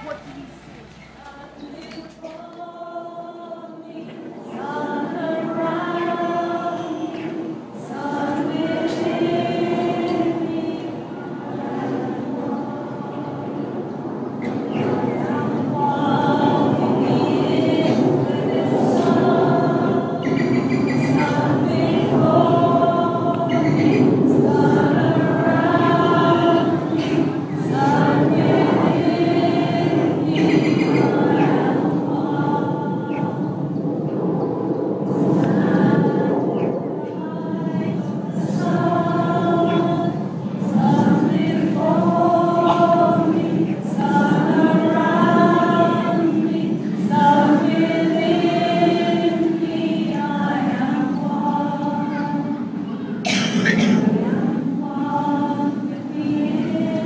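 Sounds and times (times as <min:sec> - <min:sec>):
group singing long notes: 0:00.0 - 0:57.0.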